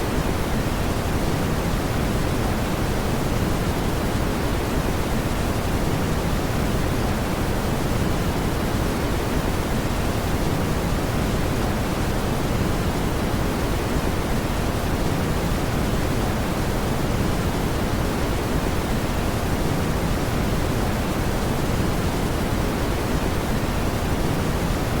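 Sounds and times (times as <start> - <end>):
brown noise hiss: 0.0 - 25.0.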